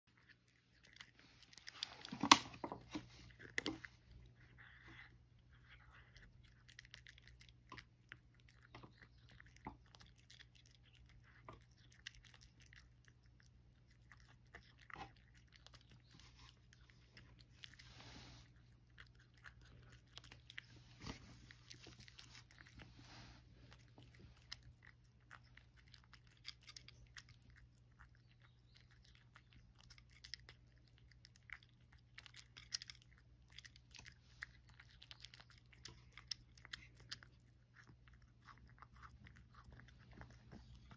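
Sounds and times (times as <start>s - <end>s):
cat crunching kibble: 0.0s - 40.9s.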